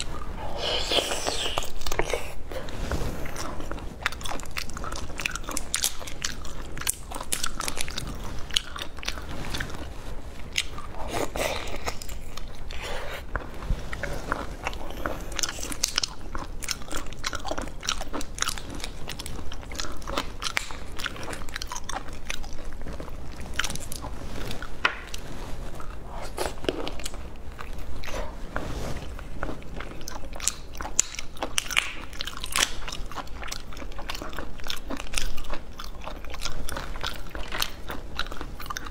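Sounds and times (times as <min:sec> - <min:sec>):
biting and chewing: 0:03.2 - 0:25.2, 0:29.1 - 0:38.9.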